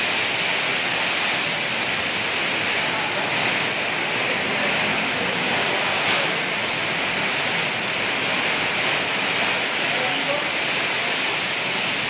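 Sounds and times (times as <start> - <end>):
heavy rain: 0.0 - 12.0
strong wind: 0.0 - 12.0.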